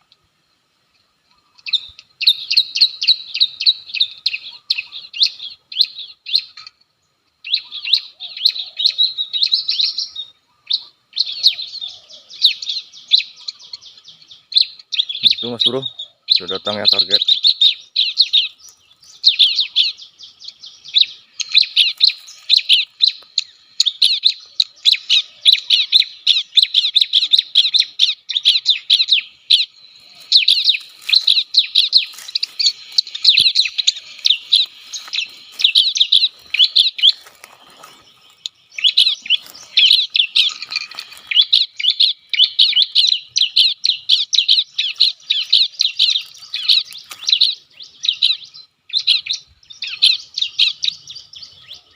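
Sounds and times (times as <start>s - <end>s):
bird chirping sharply: 7.4s - 51.9s.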